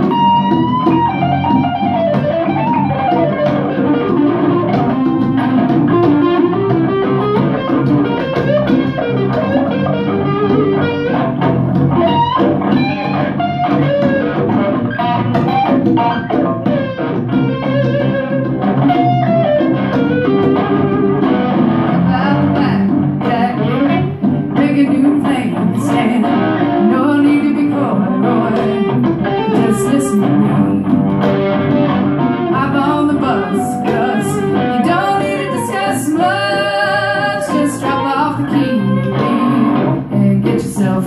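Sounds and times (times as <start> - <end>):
conga rhythm: 0.0 - 41.0
electric guitar solo: 0.0 - 41.0.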